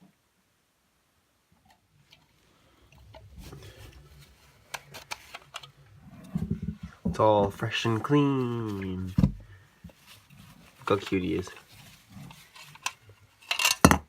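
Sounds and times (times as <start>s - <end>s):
soft rustling: 1.7s - 13.5s.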